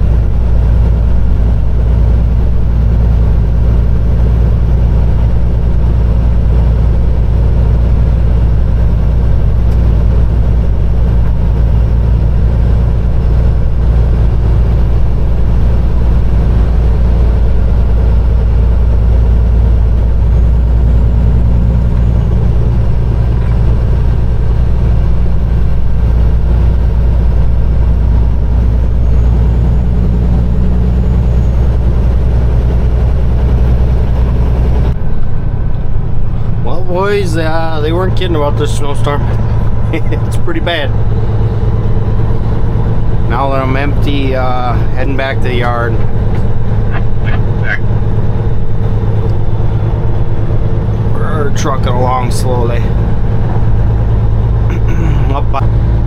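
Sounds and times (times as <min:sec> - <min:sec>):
road noise: 0:00.0 - 0:56.0
truck diesel engine droning: 0:00.0 - 0:56.0.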